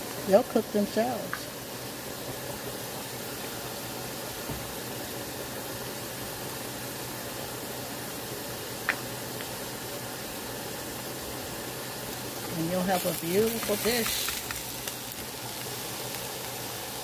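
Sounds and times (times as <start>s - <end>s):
pot simmering hiss: 0.0s - 17.0s.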